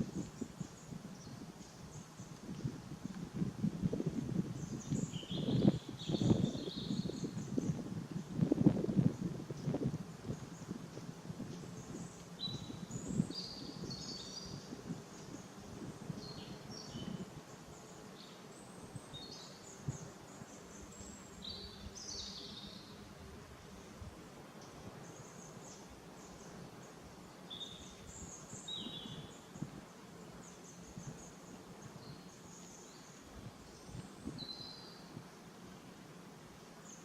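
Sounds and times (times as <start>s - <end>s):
small birds chirping: 0.0s - 3.2s, 4.0s - 36.0s
low background noise: 0.0s - 37.0s.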